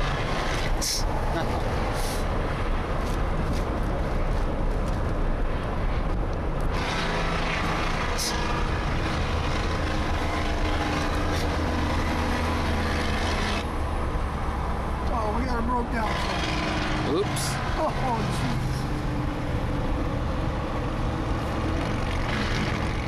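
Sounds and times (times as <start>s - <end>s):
diesel truck engine under load: 0.0s - 23.0s
road and wind noise: 0.0s - 23.0s.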